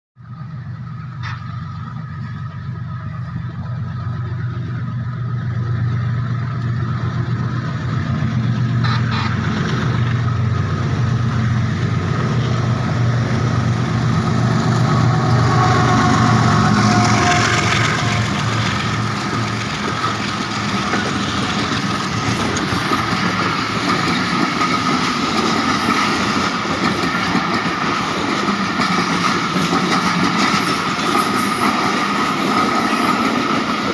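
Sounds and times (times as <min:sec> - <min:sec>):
diesel locomotive engine humming: 0:00.2 - 0:33.9
train wheels on rails: 0:00.2 - 0:33.9.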